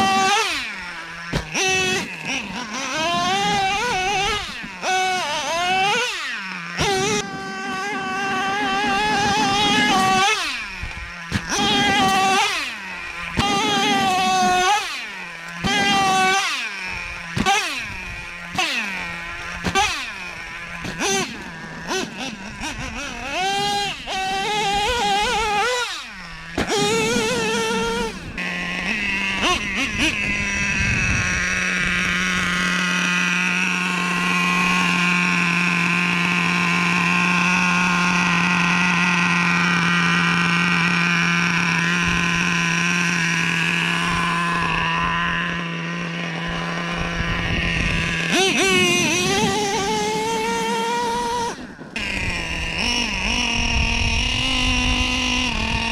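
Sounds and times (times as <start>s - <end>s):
rc truck engine revving: 0.0s - 55.9s.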